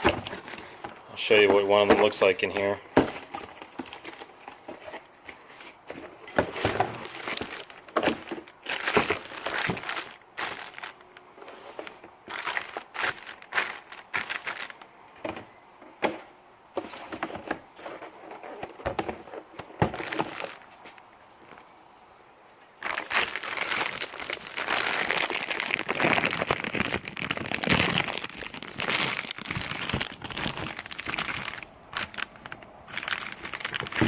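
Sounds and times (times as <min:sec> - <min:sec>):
packaging crinkling and tearing: 0:00.0 - 0:14.9, 0:17.8 - 0:20.7, 0:22.8 - 0:34.0.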